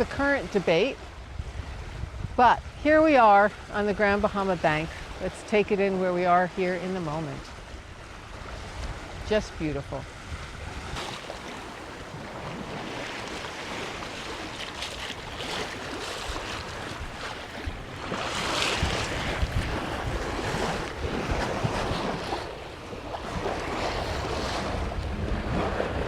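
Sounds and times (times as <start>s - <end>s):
water rushing along a hull: 0.0s - 26.0s
wind buffeting microphone: 0.0s - 26.0s.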